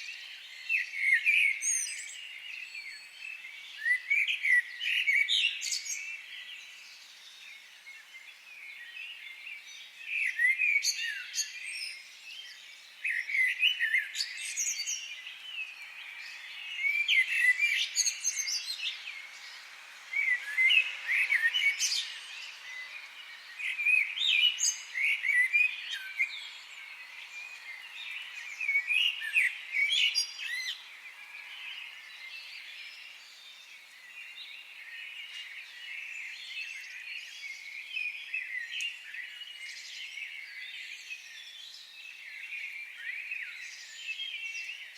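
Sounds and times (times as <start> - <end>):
songbirds chirping: 0.0 - 44.9
steady background hiss: 0.0 - 44.9.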